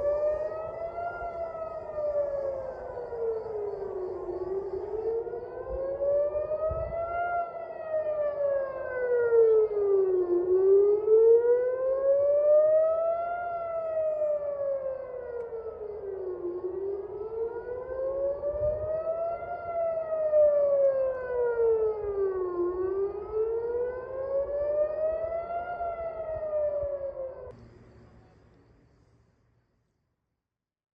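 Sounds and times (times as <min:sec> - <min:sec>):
warning siren wailing: 0:00.0 - 0:27.6.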